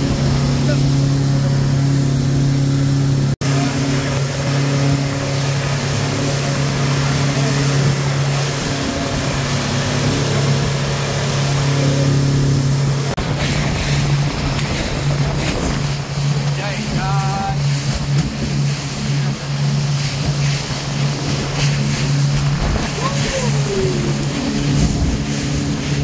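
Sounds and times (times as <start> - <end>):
outboard motors droning: 0.0 - 26.0
rush of wind and water: 0.0 - 26.0.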